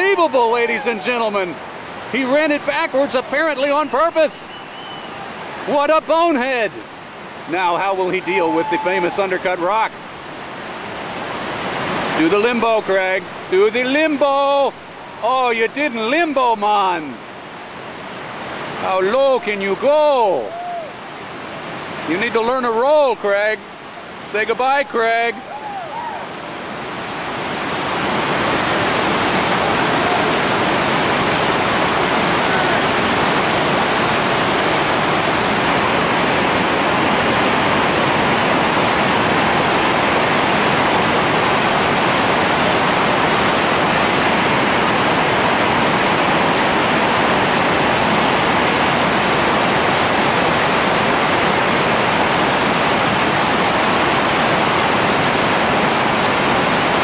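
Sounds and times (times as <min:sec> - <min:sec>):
whitewater rapids rushing: 0:00.0 - 0:57.0.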